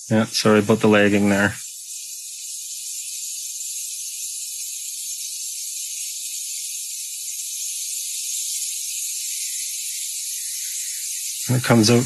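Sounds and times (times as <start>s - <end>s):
boiling water hissing: 0.0s - 12.0s.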